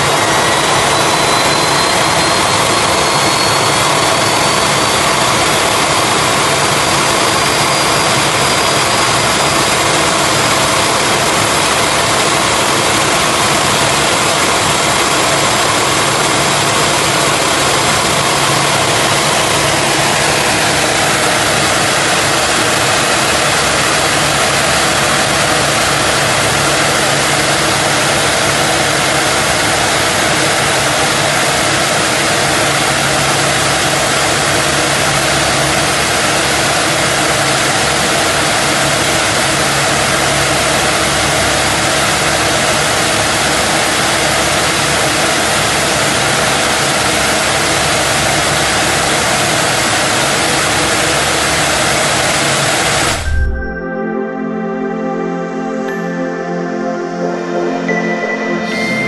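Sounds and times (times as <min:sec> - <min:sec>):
jet engine roaring with whine: 0:00.0 - 0:54.2.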